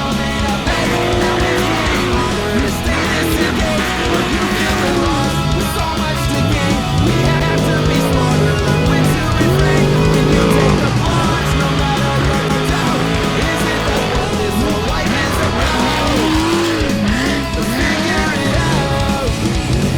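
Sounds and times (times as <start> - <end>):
electric guitar bending notes: 0.0 - 19.9
steady drum beat: 0.0 - 19.9.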